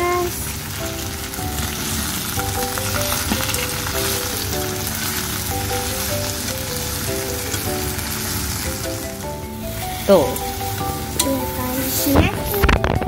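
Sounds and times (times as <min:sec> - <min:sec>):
chopsticks stirring in a pan: 0:00.0 - 0:12.6
background music melody: 0:00.0 - 0:13.0
flowers sizzling in a frying pan: 0:00.0 - 0:13.0.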